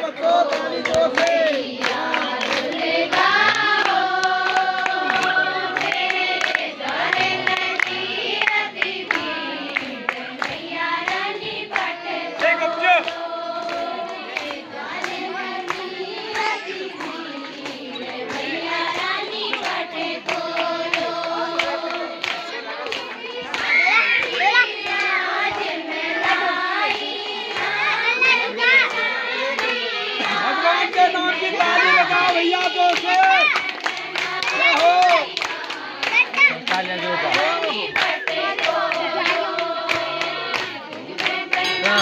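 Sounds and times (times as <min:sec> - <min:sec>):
hand-clapping: 0:00.0 - 0:42.0
women singing in unison: 0:00.0 - 0:42.0.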